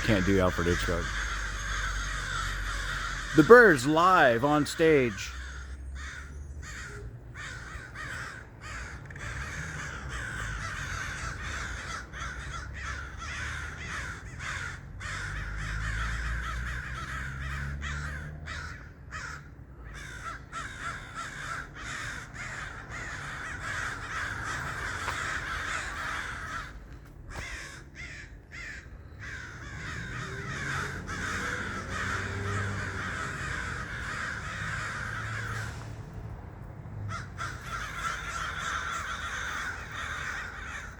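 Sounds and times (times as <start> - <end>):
crows cawing: 0.0 - 36.0, 37.0 - 40.9.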